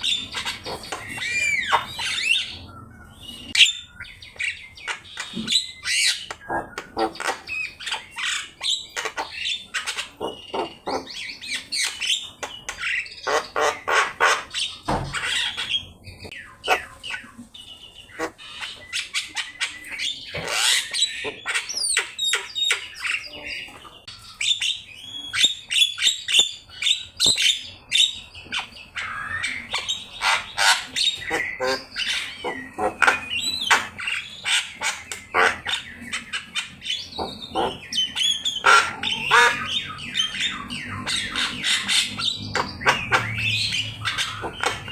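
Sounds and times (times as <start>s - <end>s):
myna bird singing: 0.0s - 44.9s.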